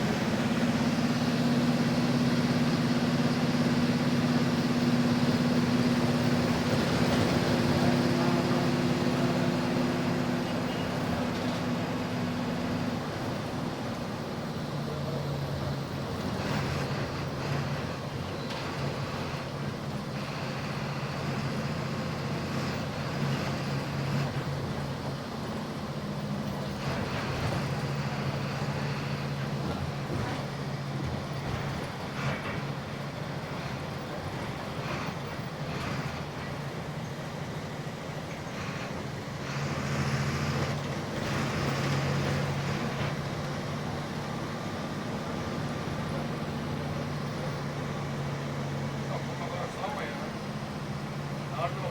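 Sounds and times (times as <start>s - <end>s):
bus diesel engine at high revs: 0.0s - 51.9s
road noise: 0.0s - 51.9s.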